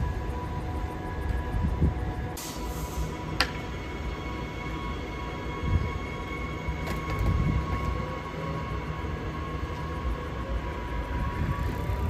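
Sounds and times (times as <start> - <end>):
high electrical whine: 0.0 - 12.0
low train rumble: 0.0 - 12.0.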